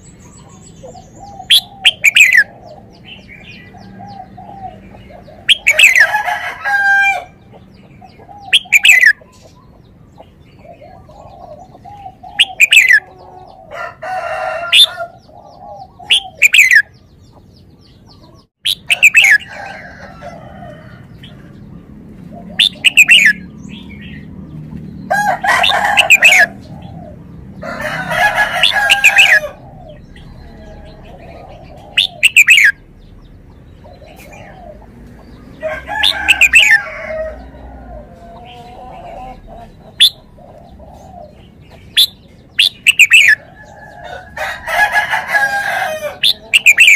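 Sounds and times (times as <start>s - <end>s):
harsh bird calls: 0.0s - 46.9s.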